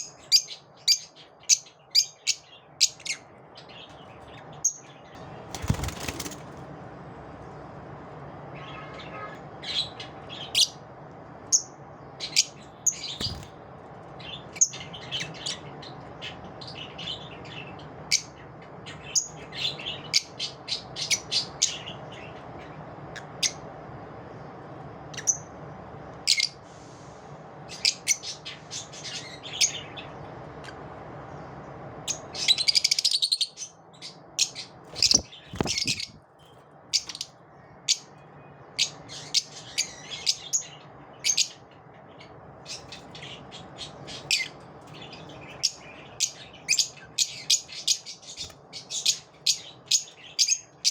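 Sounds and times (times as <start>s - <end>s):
lovebirds chirping: 0.0s - 6.6s, 8.4s - 23.7s, 27.7s - 50.9s
steady background noise: 0.0s - 50.9s.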